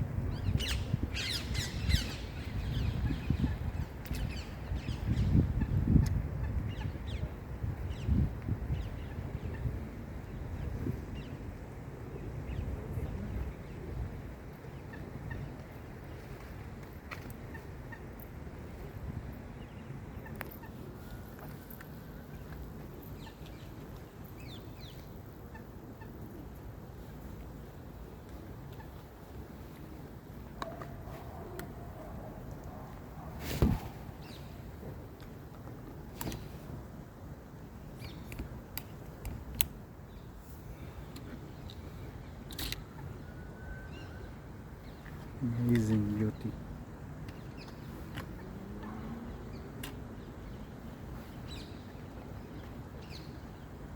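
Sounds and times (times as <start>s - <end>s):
low rushing outdoor ambience: 0.0s - 53.9s.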